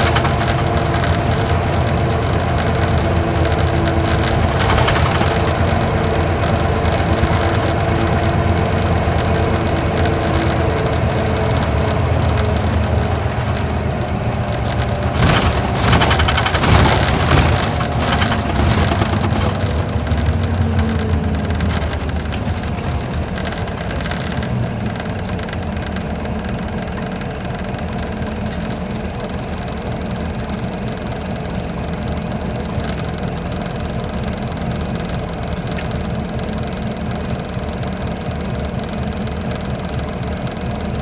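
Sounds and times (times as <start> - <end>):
diesel engine running: 0.0 - 41.0
interior rattling: 0.0 - 41.0
road and tyre noise: 0.0 - 41.0
sharp clattering: 0.0 - 41.0.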